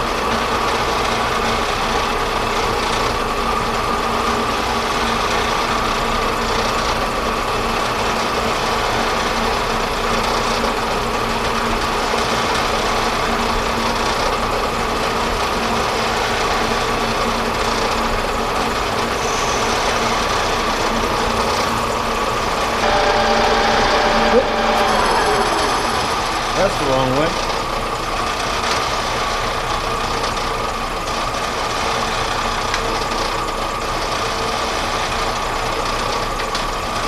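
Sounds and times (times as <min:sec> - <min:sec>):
metal lathe humming with whine: 0:00.0 - 0:37.0.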